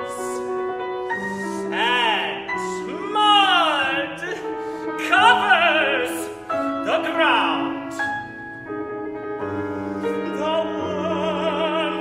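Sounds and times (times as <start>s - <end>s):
man singing opera: 0.0s - 8.2s, 9.5s - 12.0s
grand piano accompaniment: 0.0s - 12.0s.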